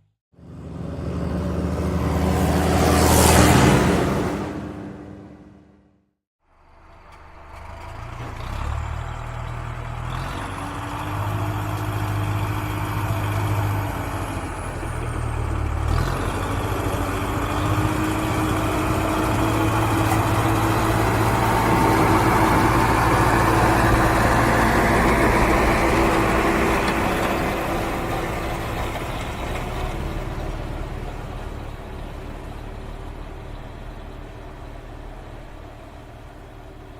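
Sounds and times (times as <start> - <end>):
tractor engine rumbling: 6.4 - 36.9.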